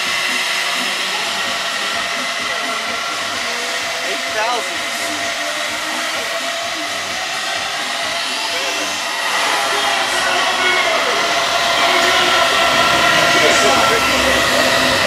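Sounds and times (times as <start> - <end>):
fan whooshing: 0.0 - 15.0.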